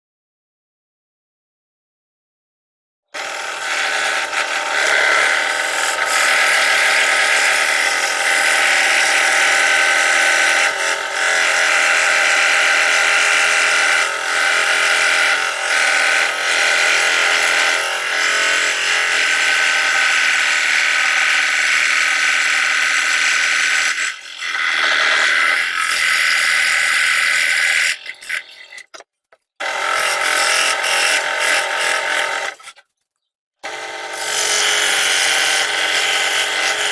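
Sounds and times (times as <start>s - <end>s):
scroll saw cutting plywood: 3.1s - 33.0s, 33.6s - 36.9s.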